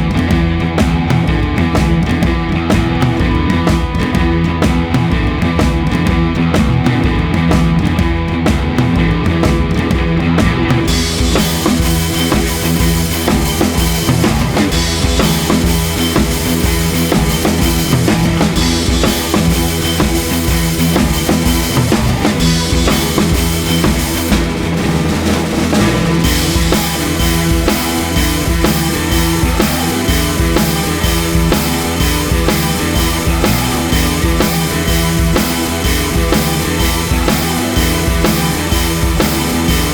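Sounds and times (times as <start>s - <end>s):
drum kit beat: 0.0s - 39.9s
rock music: 0.0s - 39.9s.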